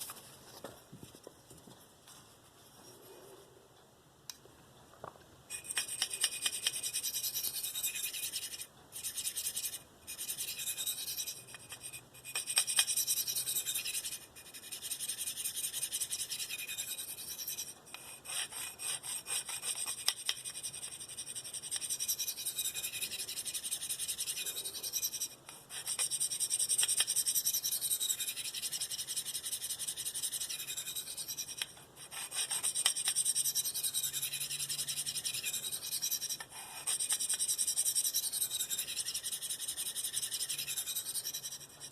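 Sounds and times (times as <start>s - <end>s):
knife blade scraping on stone: 5.5s - 41.9s.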